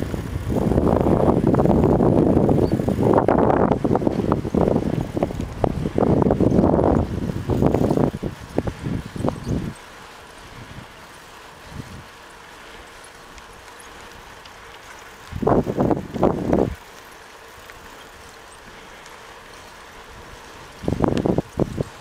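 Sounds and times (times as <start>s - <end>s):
wind buffeting microphone: 0.0s - 17.0s, 19.6s - 22.0s.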